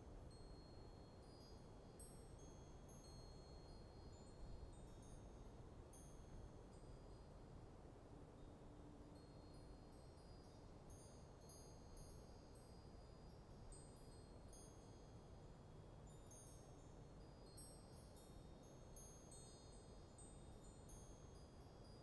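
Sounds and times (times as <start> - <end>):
wind chimes tinkling: 0.3 - 7.2, 9.4 - 22.0.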